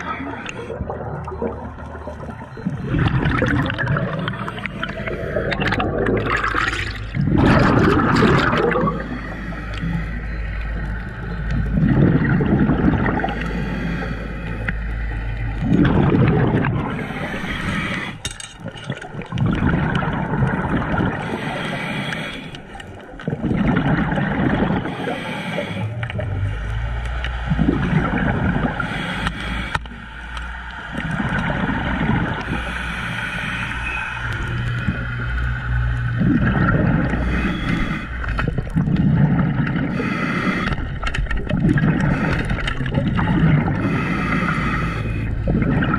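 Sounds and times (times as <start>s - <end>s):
underwater rushing gurgle: 0.0s - 45.9s.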